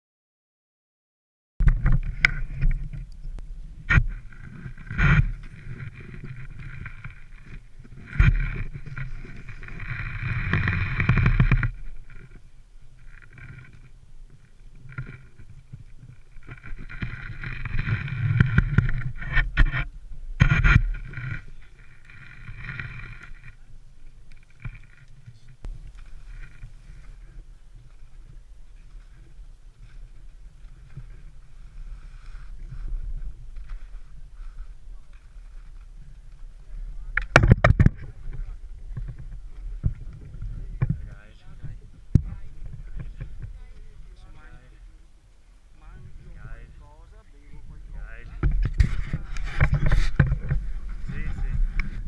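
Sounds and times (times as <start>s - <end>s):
ski gear knocking and scraping: 1.6s - 23.6s, 24.3s - 44.6s, 46.0s - 52.0s
wind buffeting microphone: 1.6s - 45.0s, 45.6s - 52.0s.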